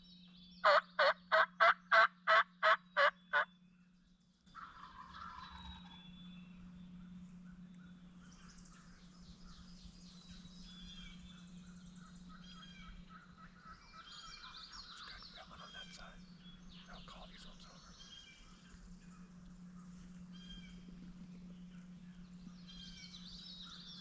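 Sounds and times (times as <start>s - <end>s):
songbirds chirping and trilling: 0.0s - 24.0s
steady low hum: 0.0s - 24.0s.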